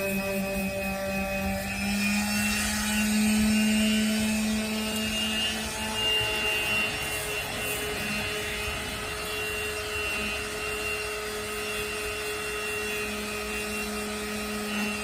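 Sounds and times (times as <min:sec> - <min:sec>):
electric sander humming: 0:00.0 - 0:15.0.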